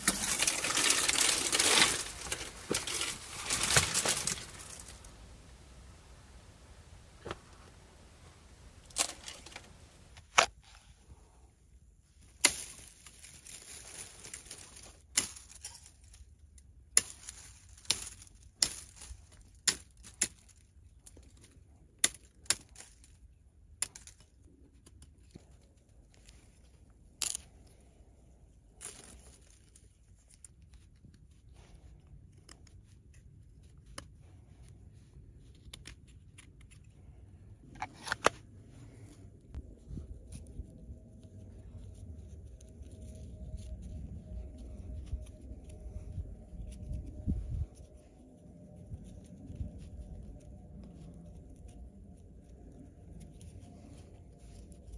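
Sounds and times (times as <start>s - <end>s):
rustling and crinkling: 0.0s - 54.9s.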